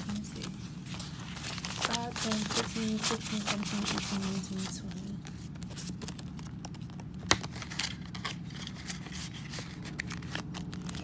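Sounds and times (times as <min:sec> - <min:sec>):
paper money rustling: 0:00.0 - 0:11.0.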